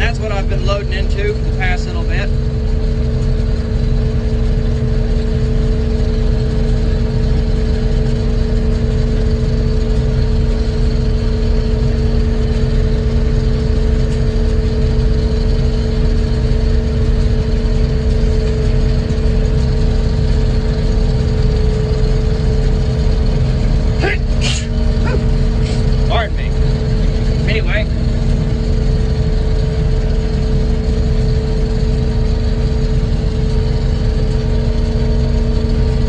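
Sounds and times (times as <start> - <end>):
combine harvester engine drone: 0.0 - 36.0.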